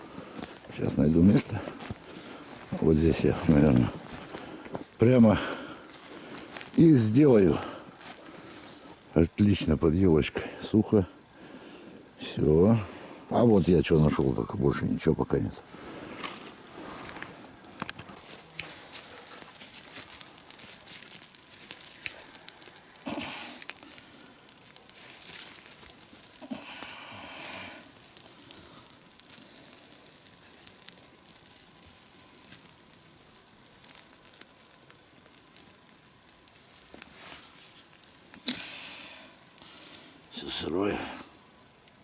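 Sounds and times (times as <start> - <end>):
twigs snapping and crackling: 0.0 - 8.8, 16.0 - 42.0.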